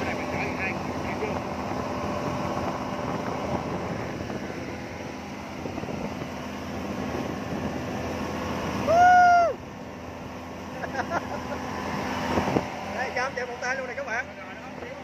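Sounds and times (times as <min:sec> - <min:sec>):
outboard motor running: 0:00.0 - 0:15.0
rush of wake and wind: 0:00.0 - 0:15.0.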